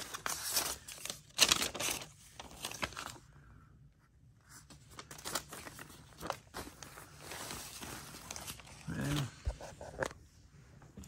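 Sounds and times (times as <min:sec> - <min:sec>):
paper and fabric rustling: 0:00.0 - 0:03.3, 0:04.4 - 0:10.3.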